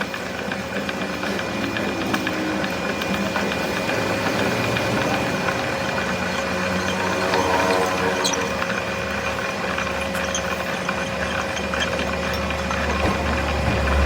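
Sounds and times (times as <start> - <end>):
machine humming: 0.0 - 14.0
rapid ticking: 0.0 - 14.0.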